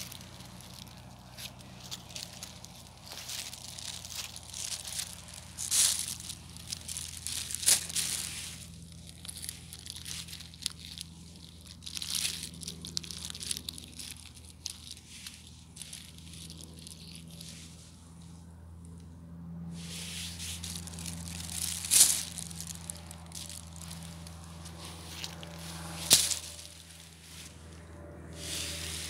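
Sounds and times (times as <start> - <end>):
dry leaves and burrs crunching: 0.0 - 29.0.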